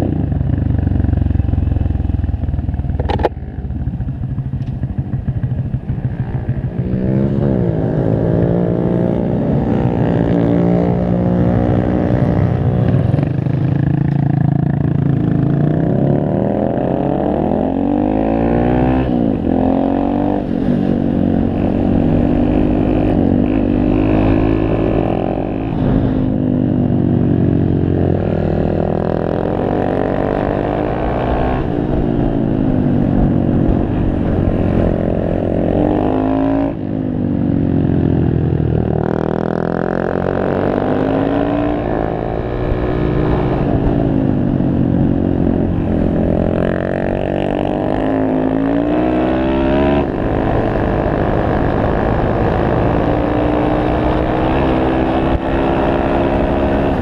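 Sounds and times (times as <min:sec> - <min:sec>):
motorcycle engine revving: 0:00.0 - 0:57.0
wind rumble on microphone: 0:01.4 - 0:57.0.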